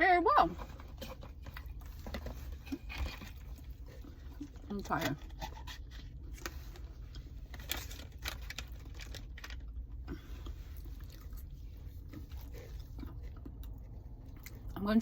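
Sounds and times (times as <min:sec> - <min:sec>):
person chewing food: 0:00.7 - 0:14.8.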